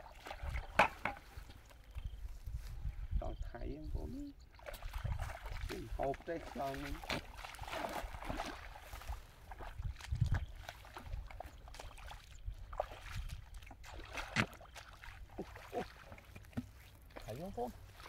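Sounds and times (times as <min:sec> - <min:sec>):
feet splashing through muddy water: 0:00.0 - 0:03.1, 0:04.5 - 0:18.0.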